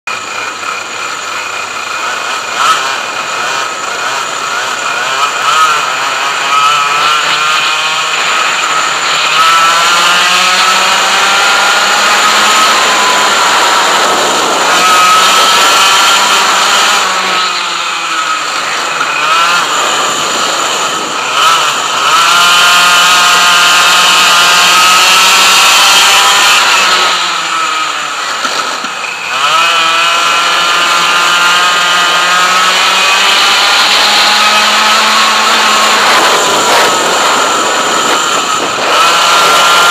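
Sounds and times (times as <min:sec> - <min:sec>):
two-stroke kart engine revving: 0:00.1 - 0:39.9.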